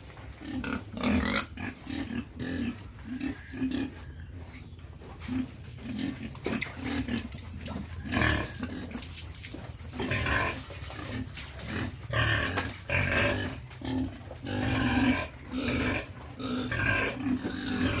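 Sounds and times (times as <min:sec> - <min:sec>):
pigs grunting and squealing: 0:00.3 - 0:18.0.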